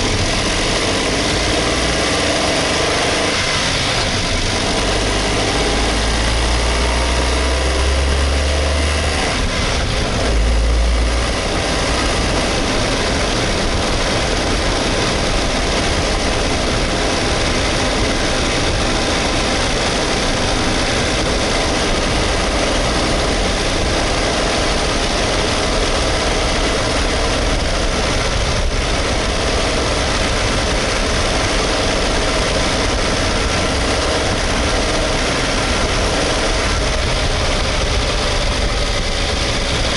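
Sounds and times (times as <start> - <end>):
small car engine running: 0.0 - 39.9.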